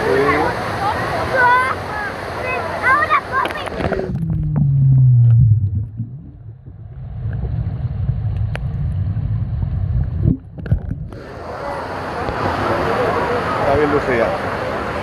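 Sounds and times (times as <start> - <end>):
muffled water rumble: 0.0 - 13.4.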